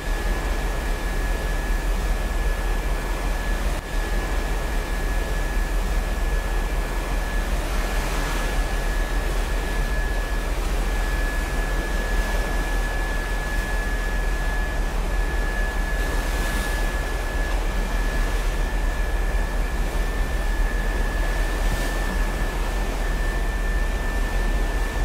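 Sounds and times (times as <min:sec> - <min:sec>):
ship low rumble: 0:00.0 - 0:25.0.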